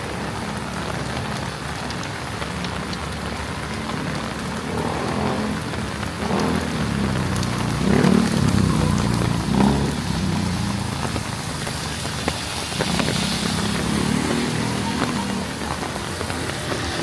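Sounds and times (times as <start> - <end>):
heavy rain falling: 0.0 - 17.0
raindrop ticks on microphone: 0.1 - 17.0.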